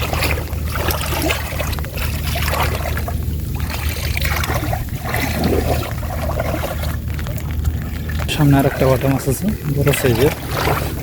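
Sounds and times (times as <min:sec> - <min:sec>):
low hum: 0:00.0 - 0:11.0
water splashing and trickling: 0:00.0 - 0:11.0.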